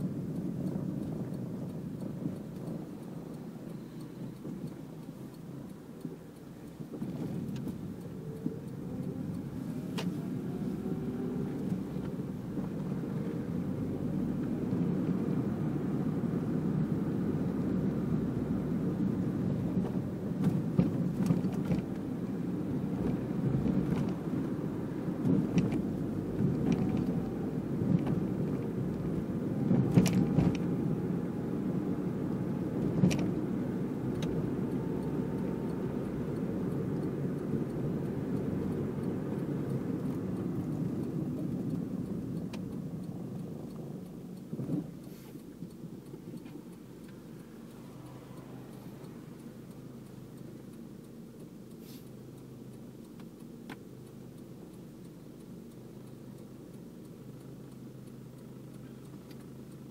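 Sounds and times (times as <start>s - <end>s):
sharp clicks: 0.0s - 18.1s, 18.9s - 59.9s
car engine from inside cabin: 0.0s - 59.9s.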